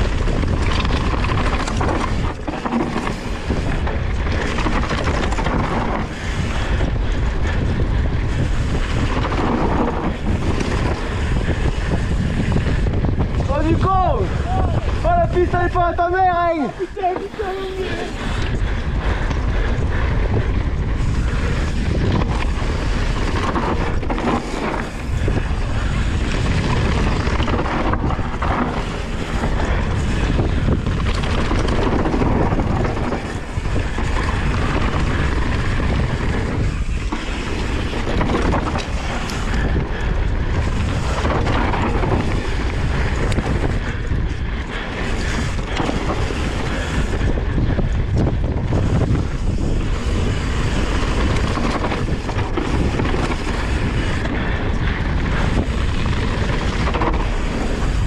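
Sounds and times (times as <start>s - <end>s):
bike clattering over bumps: 0.0s - 58.0s
tyres rolling over dirt and stones: 0.0s - 58.0s
wind buffeting microphone: 0.0s - 58.0s.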